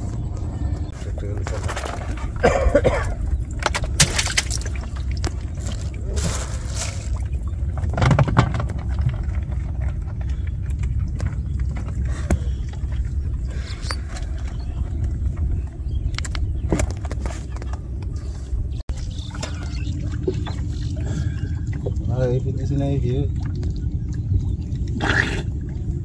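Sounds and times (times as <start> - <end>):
low rumble: 0.0 - 26.0
water splashing: 0.9 - 15.6, 18.9 - 26.0.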